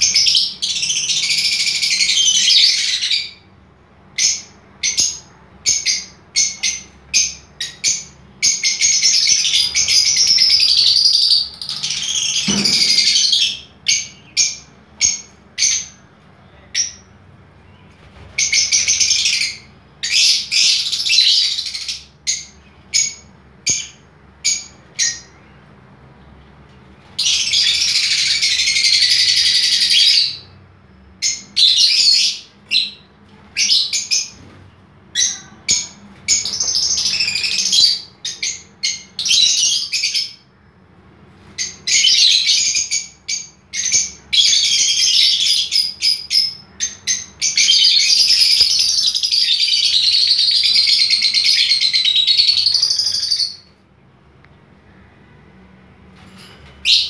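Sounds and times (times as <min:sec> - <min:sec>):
lovebirds chirping and chattering: 0:00.0 - 0:53.8.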